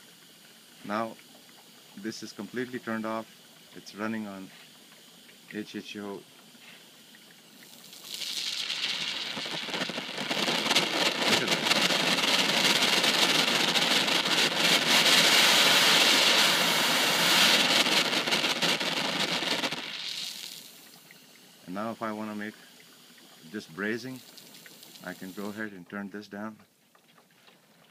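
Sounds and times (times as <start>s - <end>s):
torch flame hissing and crackling: 0.0s - 22.4s, 23.5s - 25.6s.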